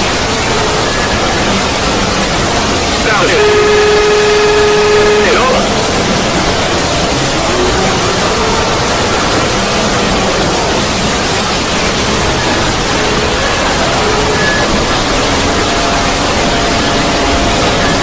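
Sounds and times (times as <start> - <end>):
loud static-like rushing noise: 0.0 - 18.0.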